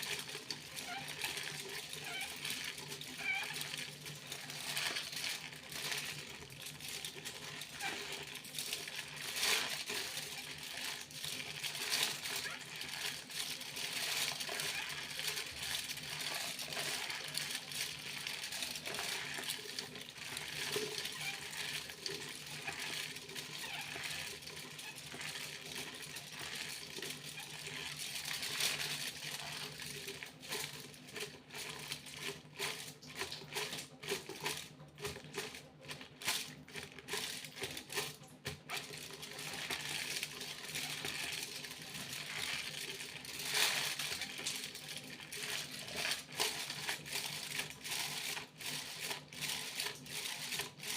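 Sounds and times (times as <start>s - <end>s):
aluminium foil crinkling: 0.0s - 50.9s.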